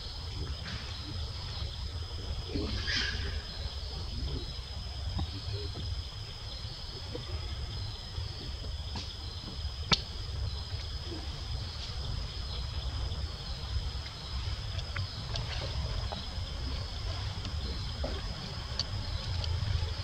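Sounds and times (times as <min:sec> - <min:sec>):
insects droning: 0:00.0 - 0:20.0
low rumble: 0:00.0 - 0:20.0.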